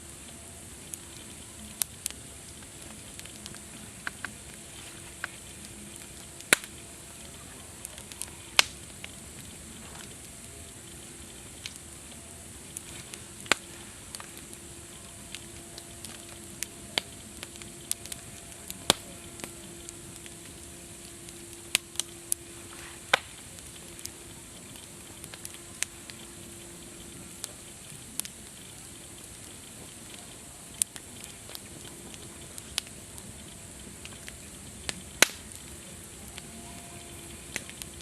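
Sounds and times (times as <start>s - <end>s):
burning wood popping: 0.0s - 38.0s
campfire crackling: 0.0s - 38.0s.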